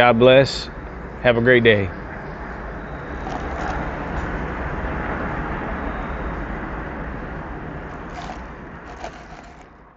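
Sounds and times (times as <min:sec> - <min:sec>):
road traffic rumble: 0:00.0 - 0:09.9.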